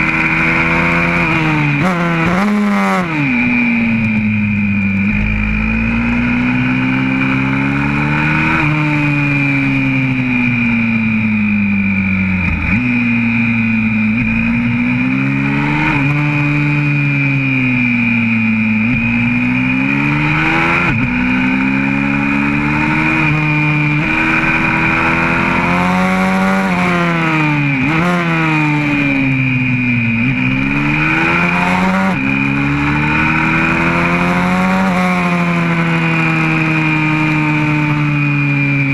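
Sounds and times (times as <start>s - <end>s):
motorbike engine revving hard: 0.0s - 38.9s.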